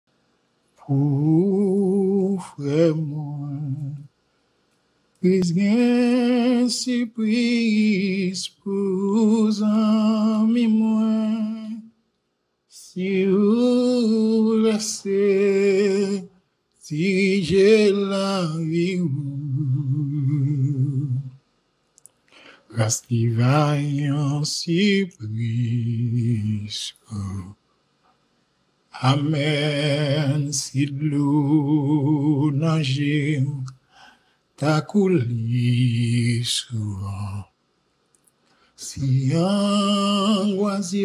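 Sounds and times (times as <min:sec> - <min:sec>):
hymn sung unaccompanied: 0:00.8 - 0:04.1, 0:05.2 - 0:12.0, 0:12.7 - 0:21.4, 0:22.6 - 0:27.6, 0:28.9 - 0:37.6, 0:38.8 - 0:41.0.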